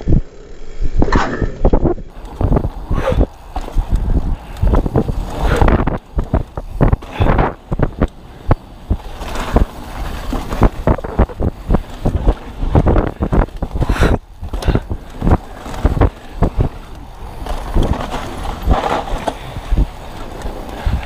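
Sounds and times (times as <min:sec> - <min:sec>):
bike knocking and rattling: 0:00.0 - 0:21.0
bike tyres on dirt: 0:00.0 - 0:21.0
wind rushing over microphone: 0:00.0 - 0:21.0.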